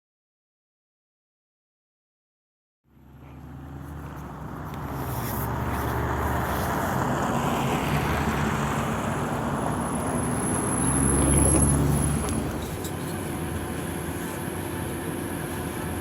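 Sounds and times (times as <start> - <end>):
bus engine humming: 2.9 - 16.0
road and cabin noise: 2.9 - 16.0.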